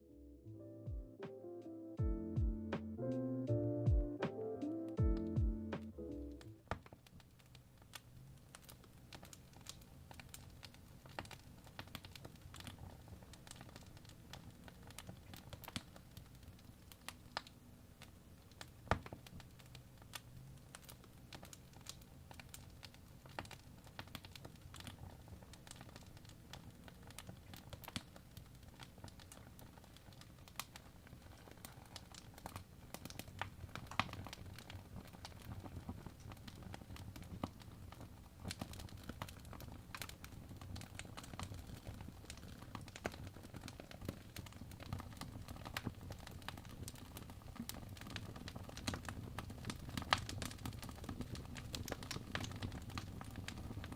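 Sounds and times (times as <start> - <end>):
wood fire crackling and popping: 5.2 - 53.9.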